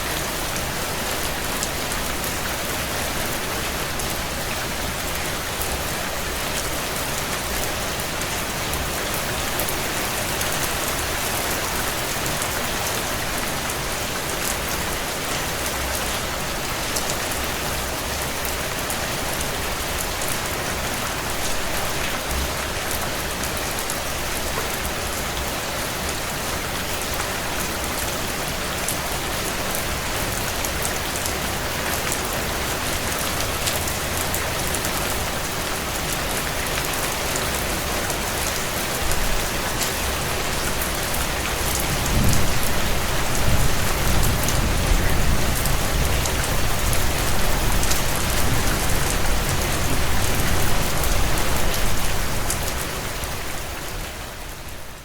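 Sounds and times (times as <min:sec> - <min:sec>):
heavy rain on window panes: 0:00.0 - 0:55.0.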